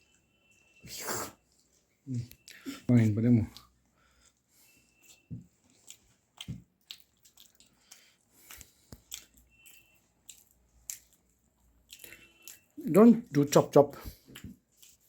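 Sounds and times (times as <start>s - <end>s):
faint eating sounds: 0.0s - 15.0s.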